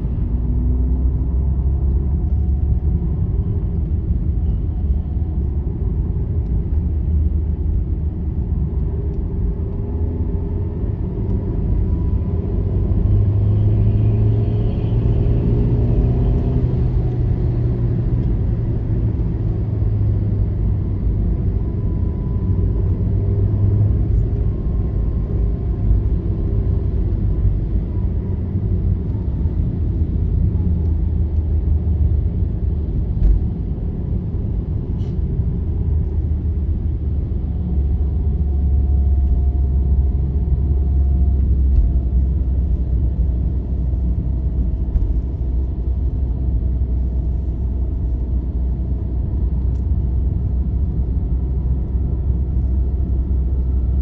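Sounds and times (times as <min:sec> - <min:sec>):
vehicle rumbling on highway: 0:00.0 - 0:54.0.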